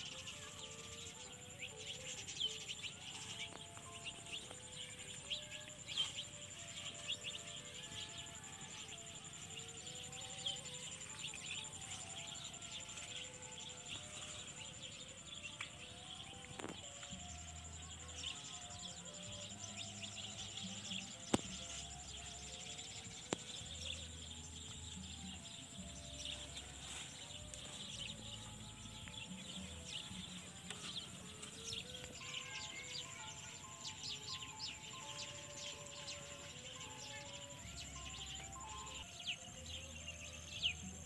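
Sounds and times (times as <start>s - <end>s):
birds chirping: 0.0s - 41.0s
soft background music: 0.0s - 41.0s.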